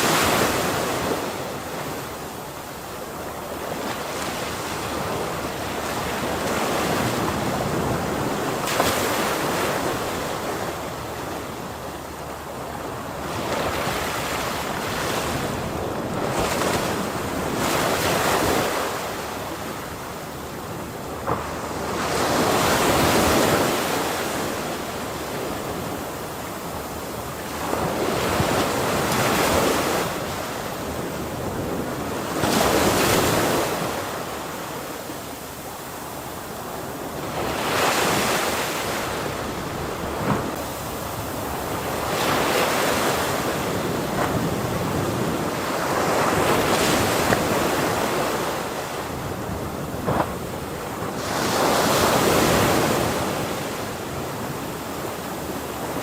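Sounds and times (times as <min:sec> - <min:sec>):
ocean waves crashing: 0:00.0 - 0:56.0.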